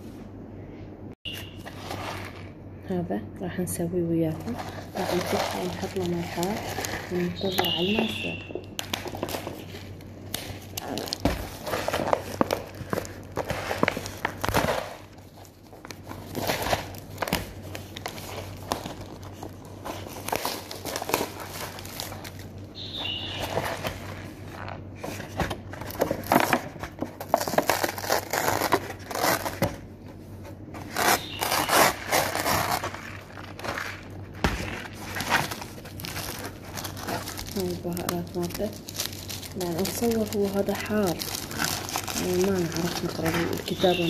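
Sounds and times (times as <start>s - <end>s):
packaging crinkling and rustling: 1.3s - 2.6s, 4.3s - 44.0s.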